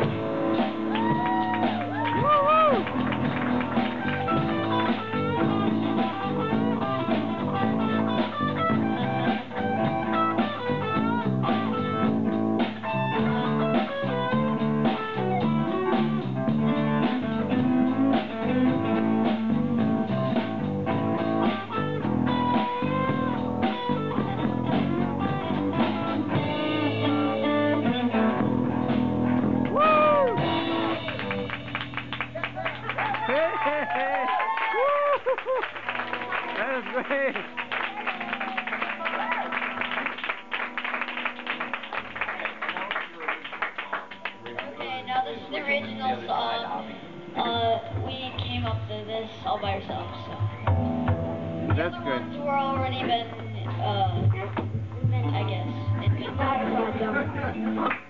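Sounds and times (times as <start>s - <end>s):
bass guitar: 0.0s - 42.8s, 44.0s - 58.0s
electric guitar: 0.0s - 43.0s, 49.8s - 58.0s
drum kit: 0.0s - 44.5s, 47.4s - 58.0s.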